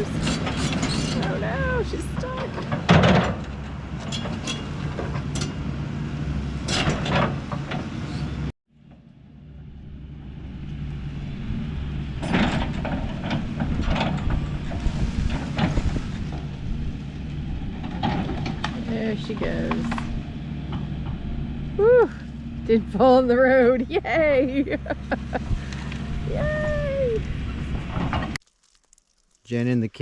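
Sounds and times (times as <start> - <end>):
diesel engine under load: 0.0 - 28.4.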